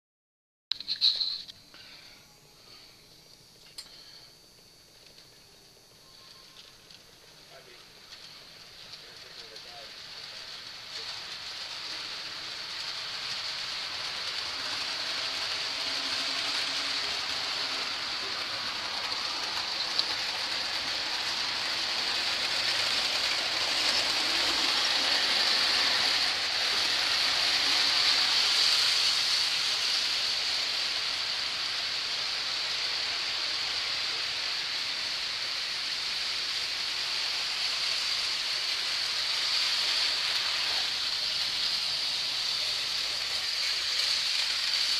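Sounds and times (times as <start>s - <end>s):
model train whirring with motor whine: 0.8s - 44.9s.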